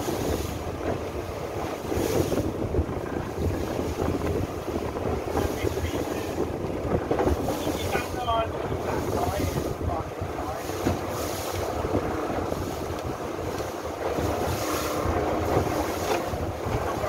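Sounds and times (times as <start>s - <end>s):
boat engine running: 0.0s - 17.0s
water rushing past hull: 0.0s - 17.0s
wind buffeting microphone: 0.0s - 17.0s.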